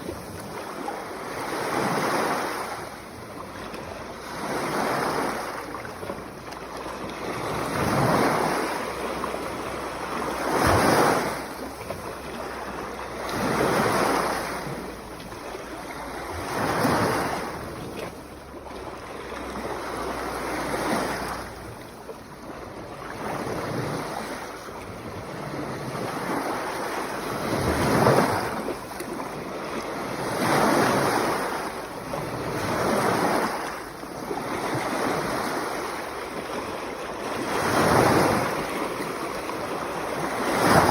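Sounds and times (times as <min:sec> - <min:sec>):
sea waves washing on shore: 0:00.0 - 0:40.9.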